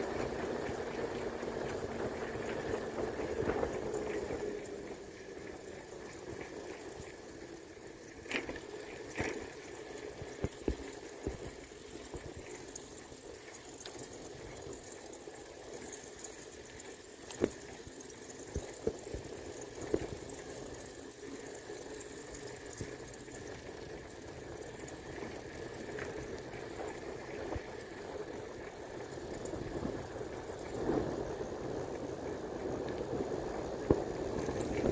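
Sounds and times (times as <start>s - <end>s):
bicycle tyres rushing: 0.0s - 34.9s.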